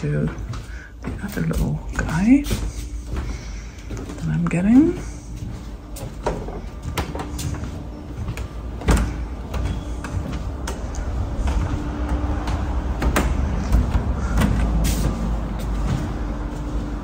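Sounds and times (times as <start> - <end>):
footsteps on wooden floorboards: 0.0 - 17.0.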